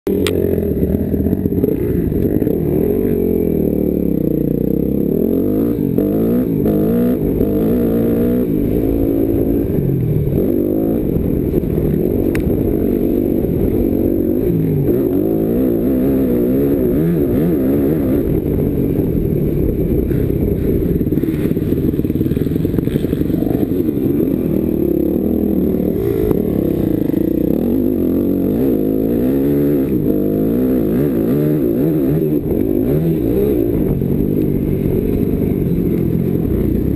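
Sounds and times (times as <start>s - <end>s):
motocross bike engine revving: 0.1s - 36.9s.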